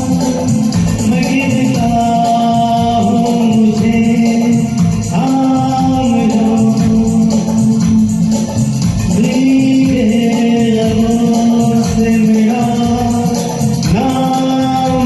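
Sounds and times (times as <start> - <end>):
people singing karaoke: 0.0 - 15.0
recorded backing track: 0.0 - 15.0.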